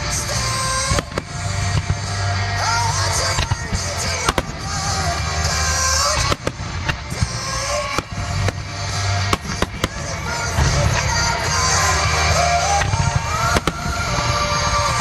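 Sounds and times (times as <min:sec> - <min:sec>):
pop-rock song with heavy bass: 0:00.0 - 0:15.0
firework shells bursting: 0:00.8 - 0:02.2, 0:03.0 - 0:15.0.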